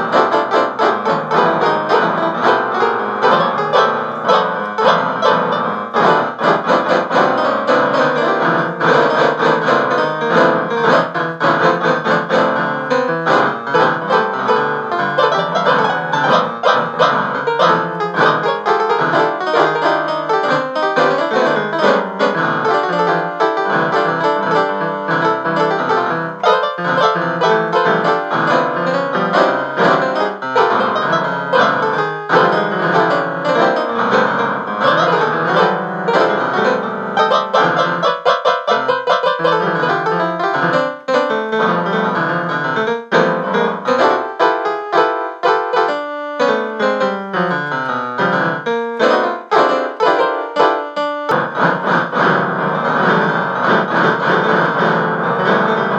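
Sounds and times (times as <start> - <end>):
piano music in fast runs: 0.0 - 55.9.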